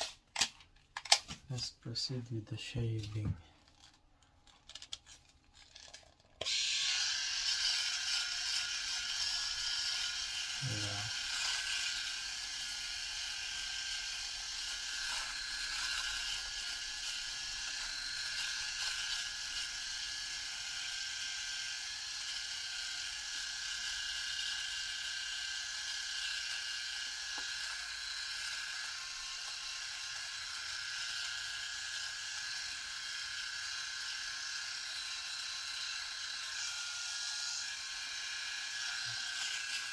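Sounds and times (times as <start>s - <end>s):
electric shaver running: 5.8s - 39.9s.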